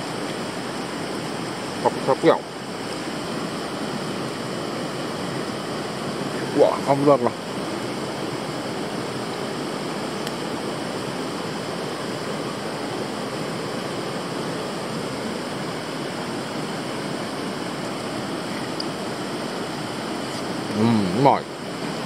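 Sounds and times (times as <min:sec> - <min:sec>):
river flowing over rocks: 0:00.0 - 0:22.0.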